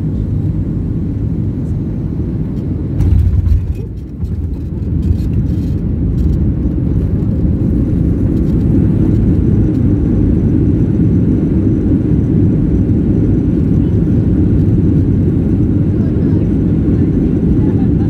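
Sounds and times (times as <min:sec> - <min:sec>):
jet engine roar in cabin: 0:00.0 - 0:18.0
wheels rumbling on runway: 0:00.0 - 0:18.0.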